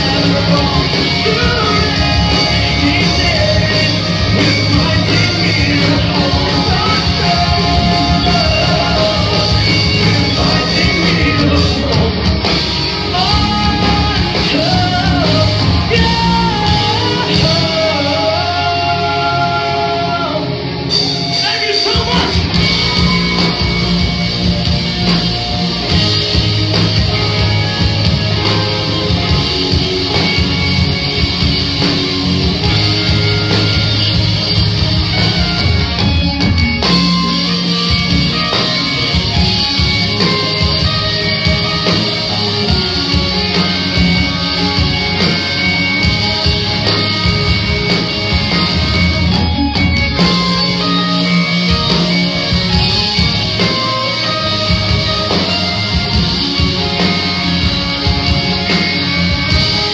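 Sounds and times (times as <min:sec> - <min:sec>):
live rock band playing loud: 0:00.0 - 0:59.9.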